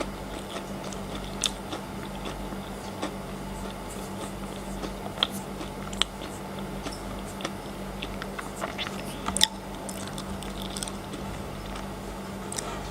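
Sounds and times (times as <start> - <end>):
chocolate crunching: 0.0 - 12.8.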